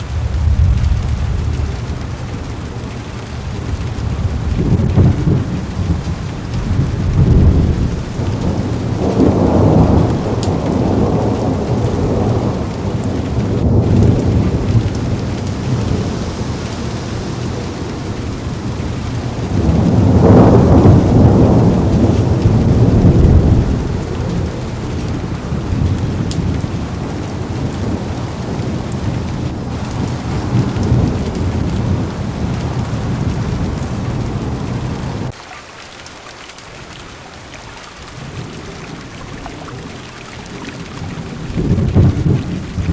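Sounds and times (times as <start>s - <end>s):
low rolling thunder: 0.0s - 35.4s, 38.1s - 42.9s
heavy rain on car window: 0.0s - 42.9s.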